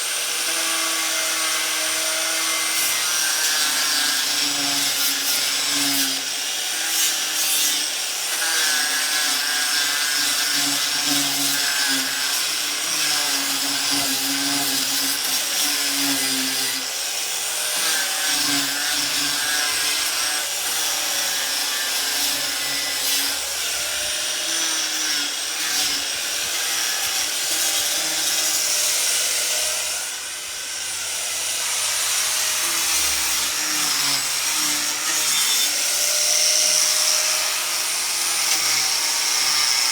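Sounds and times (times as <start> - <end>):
angle grinder sanding wood: 0.0 - 39.9.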